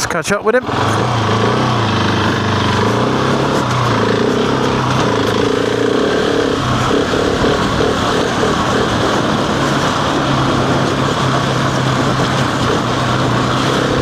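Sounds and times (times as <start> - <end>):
motorcycle engine running: 0.6 - 14.0.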